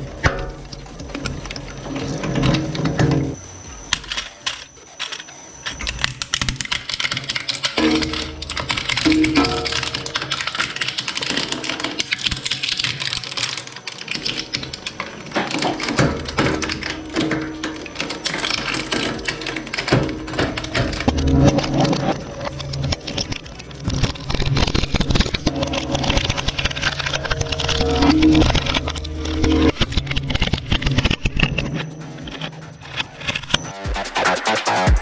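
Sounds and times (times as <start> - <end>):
shredder crunching plastic: 0.0 - 33.5
background music: 0.0 - 35.0.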